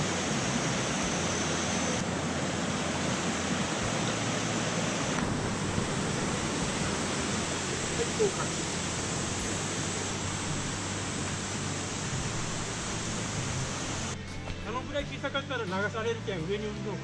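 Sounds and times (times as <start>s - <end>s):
stream rushing over rocks: 0.0s - 14.2s.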